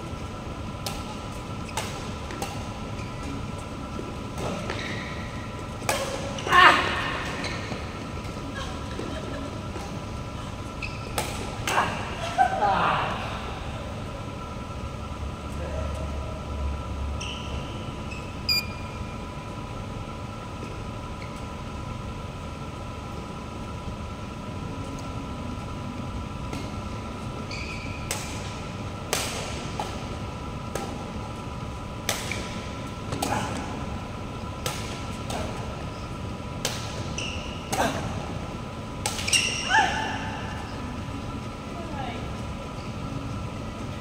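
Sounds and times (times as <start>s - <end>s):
background hum: 0.0s - 44.0s.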